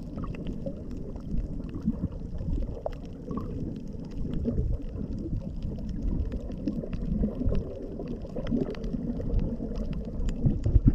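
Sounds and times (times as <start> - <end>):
faint clicks and crackles: 0.0 - 10.9
underwater rumble of water: 0.0 - 10.9.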